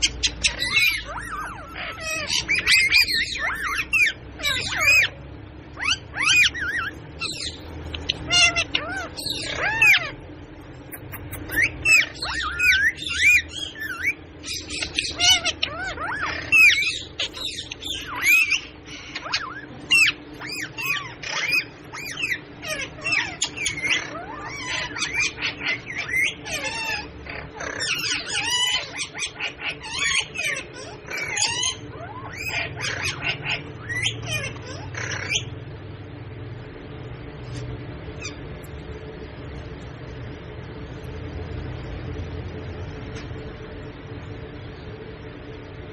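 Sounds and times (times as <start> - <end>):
parrots squawking and whistling: 0.0 - 35.7, 37.5 - 38.6.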